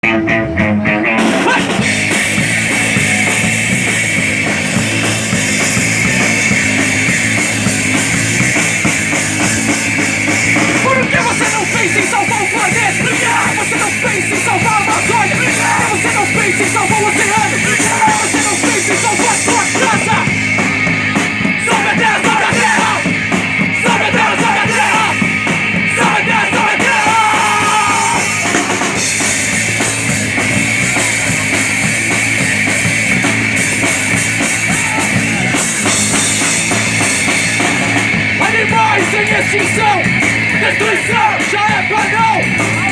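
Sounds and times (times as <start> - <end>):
drum kit: 0.0 - 42.9
punk rock band playing: 0.0 - 42.9.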